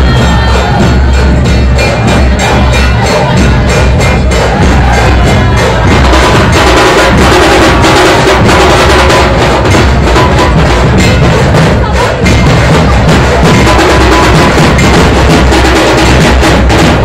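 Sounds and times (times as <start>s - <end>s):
drums played loudly: 0.0s - 17.0s.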